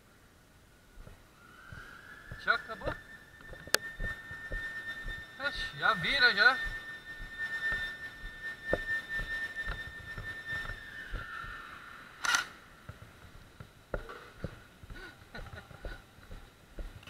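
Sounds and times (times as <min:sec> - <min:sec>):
siren winding down: 0:01.0 - 0:14.7.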